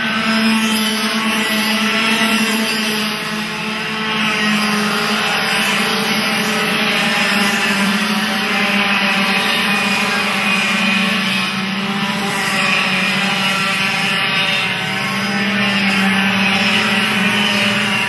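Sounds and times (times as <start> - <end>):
kart engines buzzing: 0.0 - 18.0.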